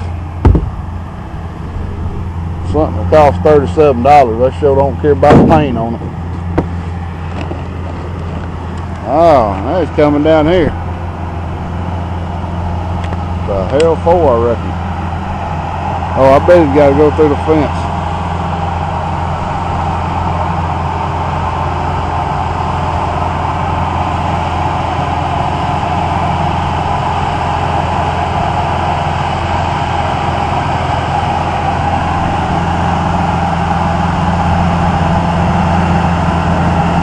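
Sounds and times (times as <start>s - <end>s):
tree-trimming machine engine running: 0.0s - 37.0s.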